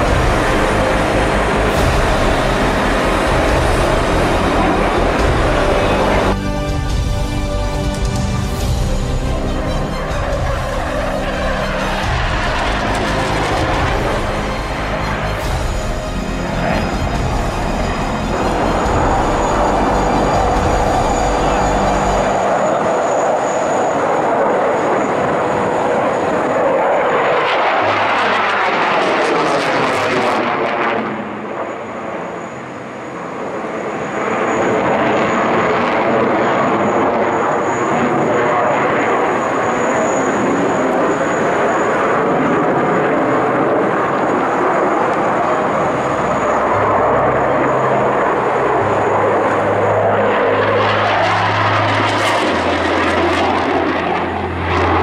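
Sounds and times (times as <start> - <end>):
fighter jet engines roaring: 0.0 - 55.0
jet passing rush: 0.0 - 55.0.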